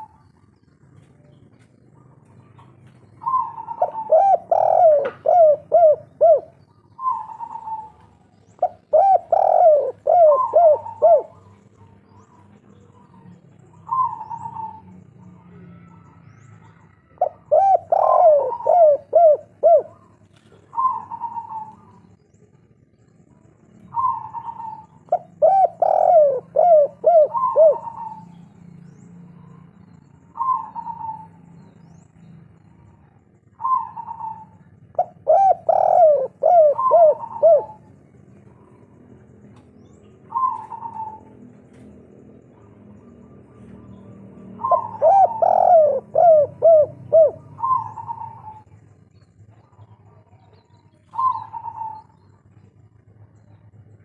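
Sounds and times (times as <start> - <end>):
dove cooing: 0.0 - 22.8, 23.8 - 31.8, 32.5 - 53.6.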